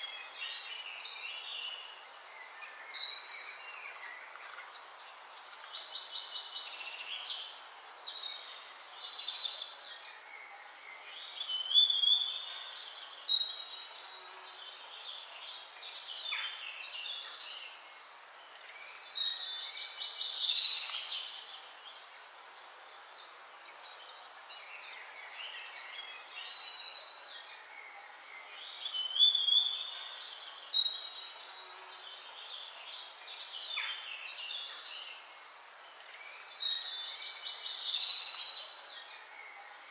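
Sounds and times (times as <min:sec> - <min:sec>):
birds singing and calling: 0:00.0 - 0:39.9
faint background hiss: 0:00.0 - 0:39.9.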